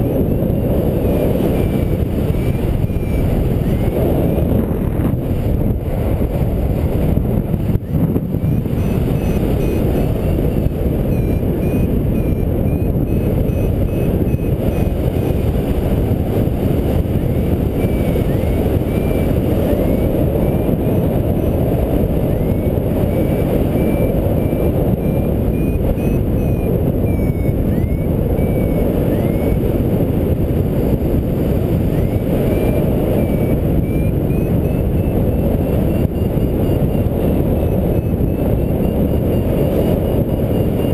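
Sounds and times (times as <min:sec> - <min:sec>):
variometer beeping: 0:00.0 - 0:05.1, 0:06.1 - 0:30.0, 0:30.8 - 0:40.9
wind on microphone: 0:00.0 - 0:40.9.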